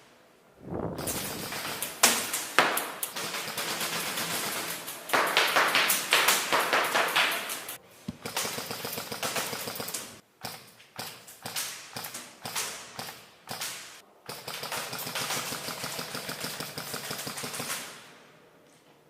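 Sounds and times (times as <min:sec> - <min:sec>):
airsoft gun shots: 0:01.0 - 0:18.1.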